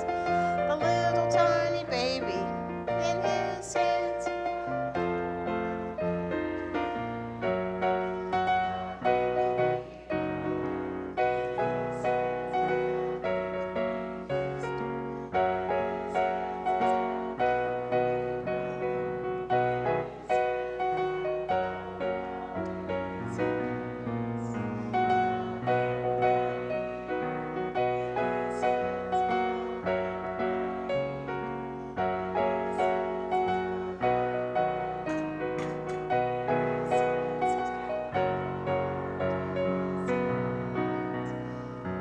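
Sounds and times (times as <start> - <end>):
gentle piano piece: 0.0 - 42.0.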